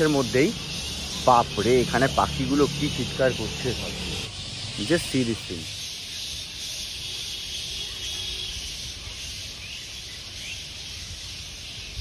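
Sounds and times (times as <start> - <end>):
fruit bats screeching: 0.0 - 12.0.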